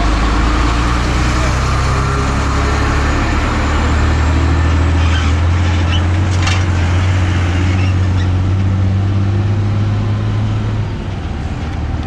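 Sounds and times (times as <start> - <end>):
road noise: 0.0 - 12.0
vehicle engine humming: 0.0 - 12.0.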